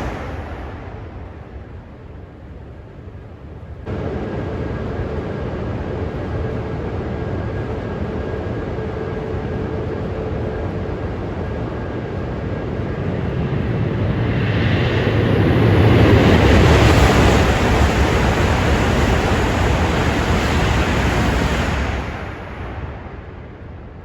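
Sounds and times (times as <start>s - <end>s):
train rushing past: 0.0s - 11.2s, 12.3s - 24.0s.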